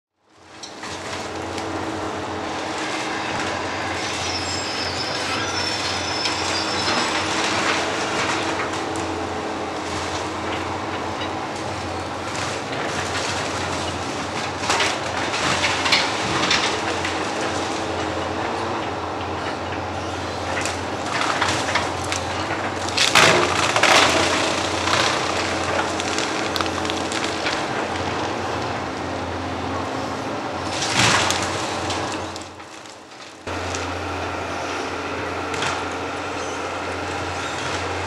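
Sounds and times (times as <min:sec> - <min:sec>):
diesel engine running: 0:00.4 - 0:38.0.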